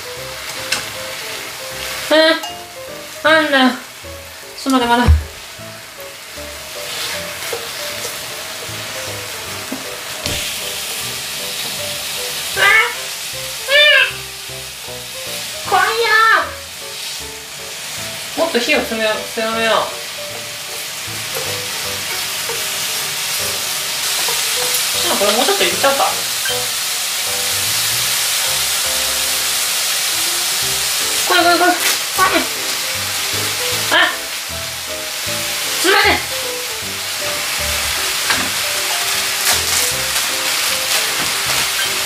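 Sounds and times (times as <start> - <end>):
background music: 0.0 - 29.8, 30.5 - 42.0
pork sizzling in a frying pan: 0.0 - 42.0.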